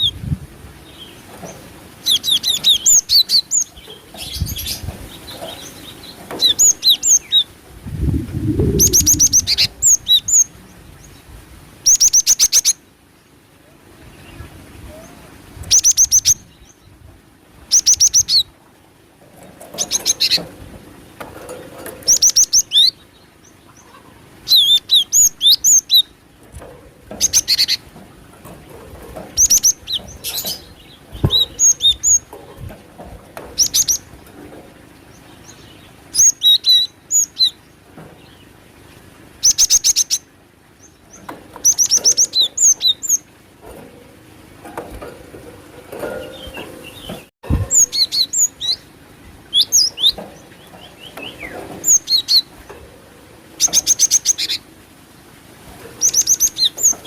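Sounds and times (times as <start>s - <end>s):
bird chirps and trills: 0.8s - 11.2s, 11.8s - 12.8s, 14.2s - 17.0s, 17.7s - 20.6s, 21.4s - 54.7s, 55.9s - 57.0s.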